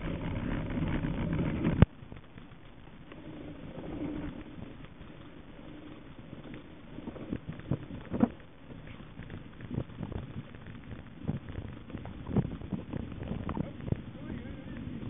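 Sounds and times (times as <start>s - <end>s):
tyres rumbling on dirt: 0.0s - 15.0s.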